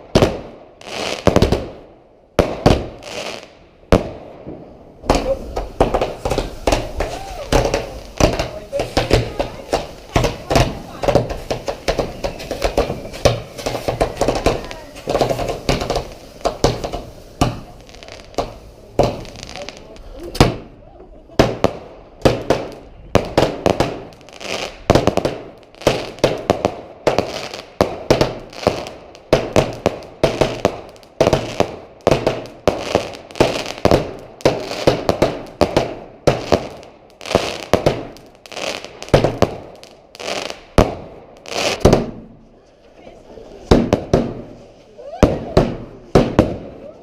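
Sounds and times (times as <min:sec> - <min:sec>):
fireworks bangs with crackle: 0:00.0 - 0:42.6, 0:43.4 - 0:47.0.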